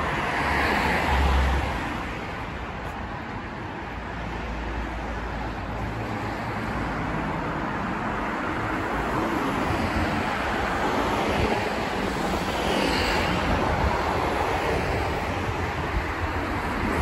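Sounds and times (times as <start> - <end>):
passing vehicles rushing: 0.0 - 17.0.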